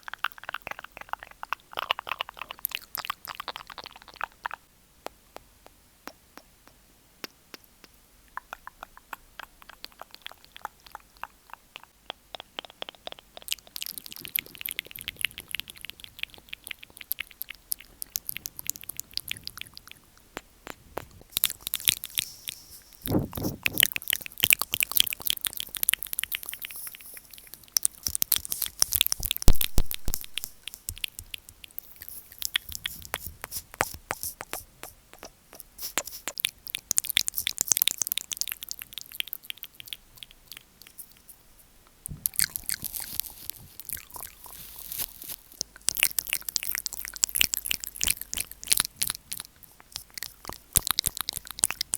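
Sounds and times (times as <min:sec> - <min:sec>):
wet tongue clicks: 0:00.0 - 0:44.5, 0:45.3 - 0:51.9
lip smacks: 0:00.0 - 0:51.9.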